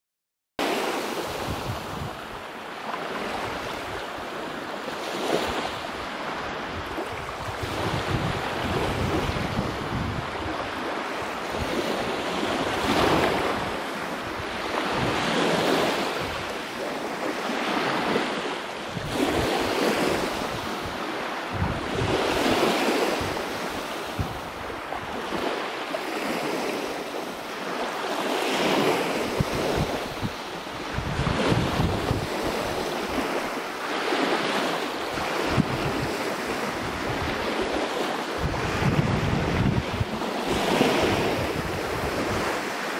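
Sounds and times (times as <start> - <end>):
small sea waves washing in: 0.7 - 42.9
wind rumbling on microphone: 1.2 - 27.9, 28.6 - 42.9.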